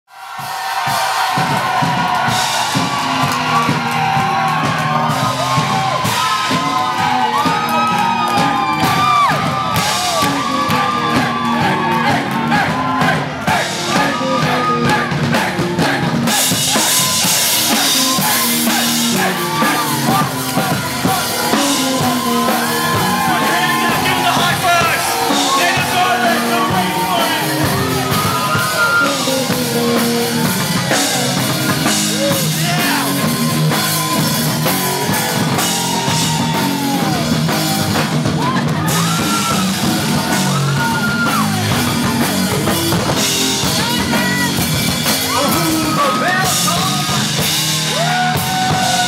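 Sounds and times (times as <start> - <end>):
crowd whooping and shouting: 0.1 - 49.0
rock music with singing: 0.2 - 49.0.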